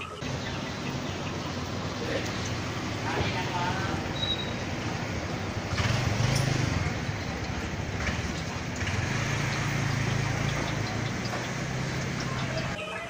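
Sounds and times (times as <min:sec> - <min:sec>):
cars passing: 0:00.0 - 0:12.8
motorbikes passing: 0:00.0 - 0:12.8.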